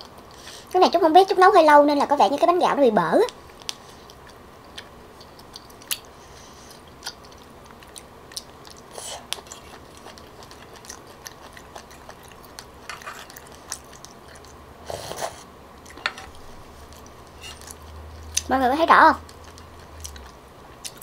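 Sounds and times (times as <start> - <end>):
chewing soft rice cakes: 3.2 - 21.0.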